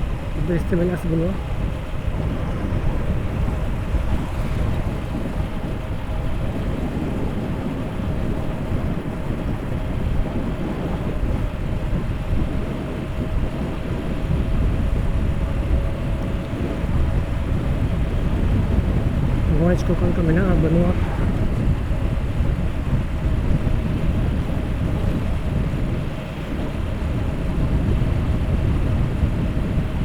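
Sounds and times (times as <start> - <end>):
road noise from moving vehicle: 0.0 - 30.0
wind rushing over microphone: 0.0 - 30.0.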